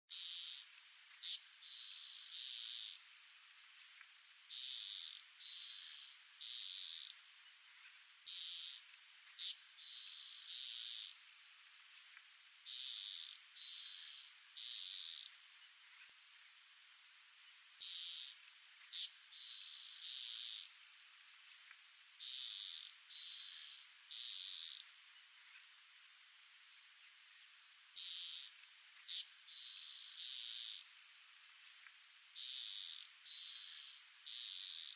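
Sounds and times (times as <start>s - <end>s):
buzzing cricket pulses: 0.1s - 34.9s.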